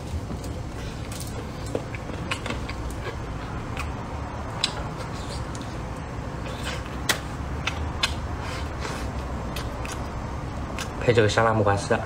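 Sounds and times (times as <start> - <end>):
steady low hum: 0.0 - 12.0
close chewing with mouth smacks: 0.4 - 11.0.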